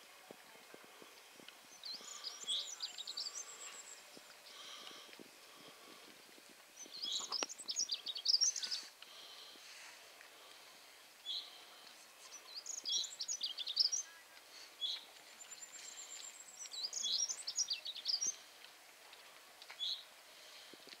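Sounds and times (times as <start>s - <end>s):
faint outdoor hiss: 0.0s - 21.0s
songbirds singing: 0.5s - 9.6s, 10.4s - 18.7s, 19.7s - 21.0s.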